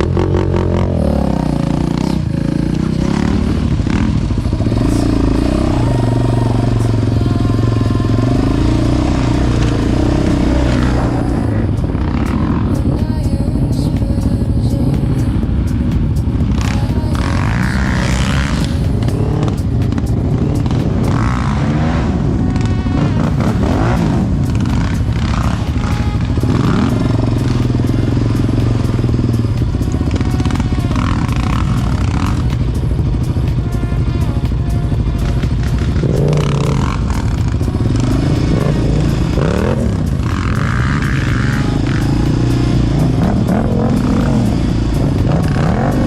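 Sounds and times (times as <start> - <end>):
quad engines revving: 0.0 - 46.0.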